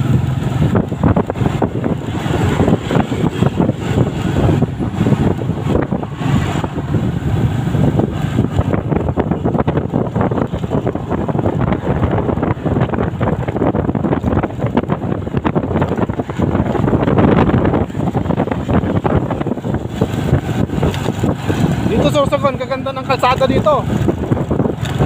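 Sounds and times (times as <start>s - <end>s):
motorcycle engine: 0.0s - 25.0s
road noise: 0.0s - 25.0s
wind buffeting microphone: 0.0s - 25.0s.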